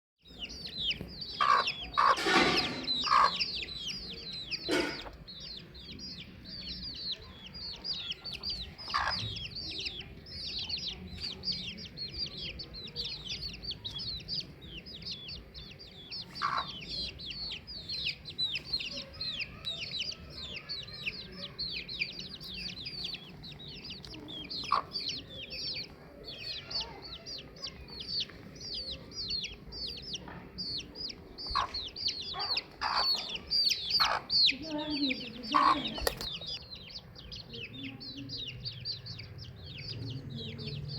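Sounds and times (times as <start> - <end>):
chicks peeping: 0.2 - 40.9
hen clucking: 0.4 - 37.7.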